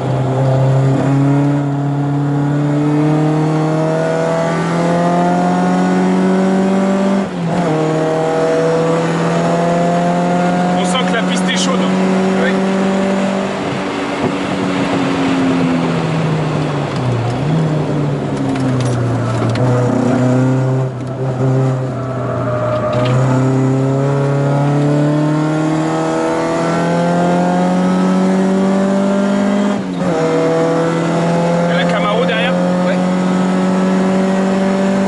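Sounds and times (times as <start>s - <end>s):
car engine revving from inside: 0.4s - 16.0s, 18.7s - 22.0s, 22.7s - 35.0s.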